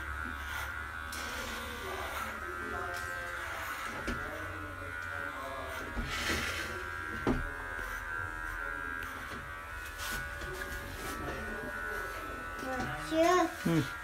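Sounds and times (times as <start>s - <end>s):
electric pet clipper running: 0.0s - 14.0s.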